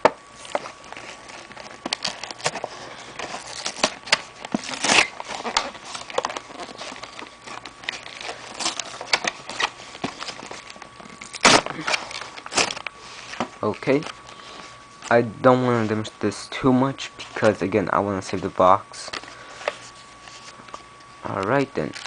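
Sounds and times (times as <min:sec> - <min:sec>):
packaging rustle: 0:00.2 - 0:15.1, 0:19.0 - 0:22.0
plastic packaging crinkling: 0:00.2 - 0:15.1, 0:19.0 - 0:22.0.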